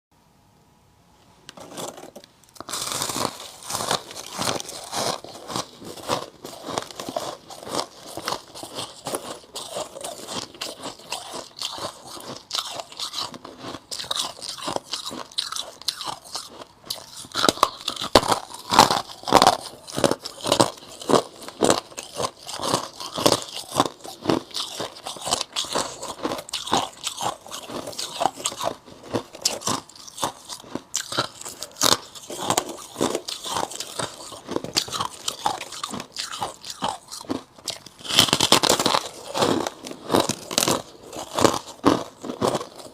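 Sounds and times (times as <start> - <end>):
ice being crunched and chewed: 1.5 - 42.9.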